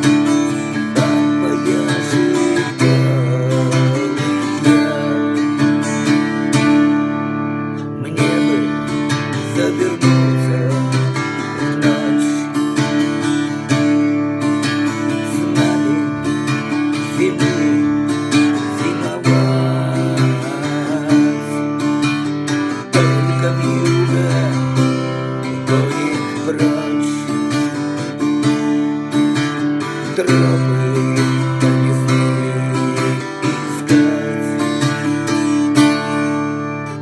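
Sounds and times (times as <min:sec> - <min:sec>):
strummed acoustic guitar: 0:00.0 - 0:37.0.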